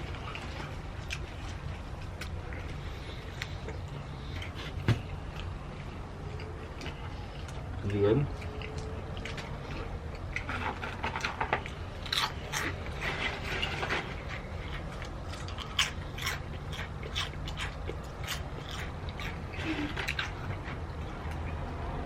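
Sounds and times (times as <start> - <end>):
person chewing and crunching food: 0.0 - 21.9
low steady hum: 0.0 - 22.0.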